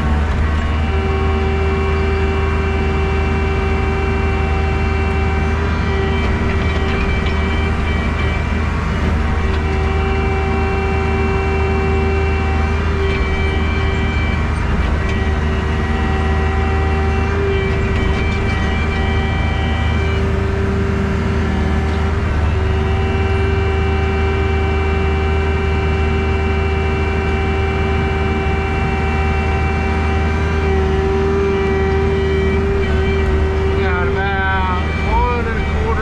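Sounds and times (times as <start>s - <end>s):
excavator diesel engine digging: 0.0s - 36.0s
pitched whine: 0.0s - 36.0s.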